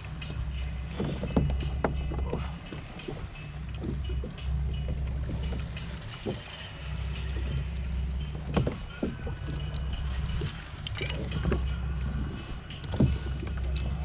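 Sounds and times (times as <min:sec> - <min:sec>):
low rumble: 0:00.0 - 0:14.0
water against kayak hull: 0:00.0 - 0:14.0
knocks and splashes: 0:00.2 - 0:14.0.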